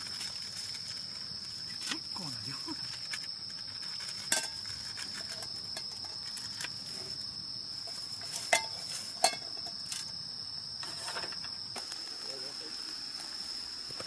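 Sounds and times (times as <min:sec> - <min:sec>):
insects singing: 0:00.0 - 0:14.0.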